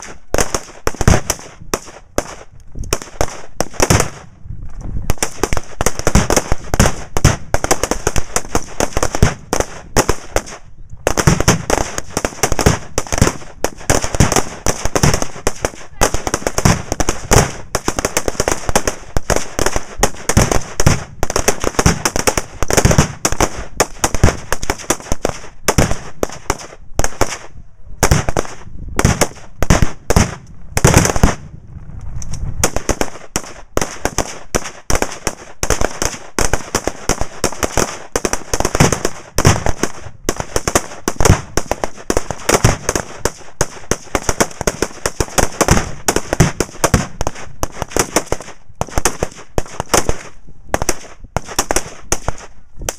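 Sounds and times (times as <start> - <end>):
rapid rifle fire: 0.0 - 4.3, 5.1 - 31.4, 32.6 - 52.9.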